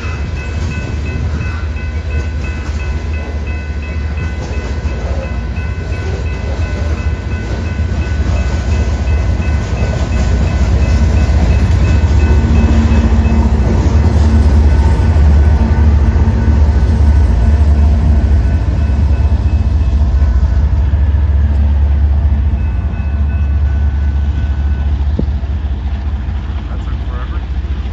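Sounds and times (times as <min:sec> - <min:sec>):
freight train rumbling past: 0:00.0 - 0:27.9.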